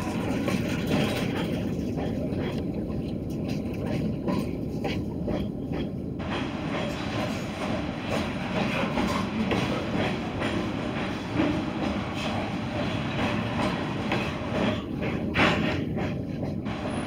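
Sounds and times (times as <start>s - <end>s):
freight train rumbling past: 0.0s - 3.4s, 4.1s - 17.0s
wheels clicking over rail joints: 0.0s - 17.0s.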